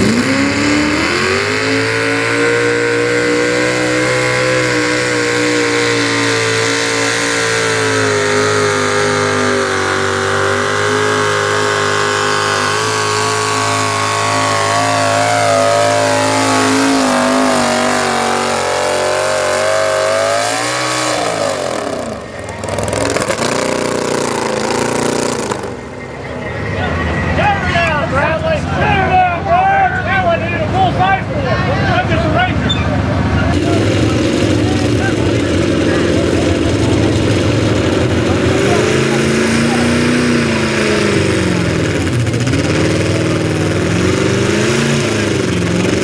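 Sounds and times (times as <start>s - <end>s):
pulling truck engine at full throttle: 0.0s - 46.0s.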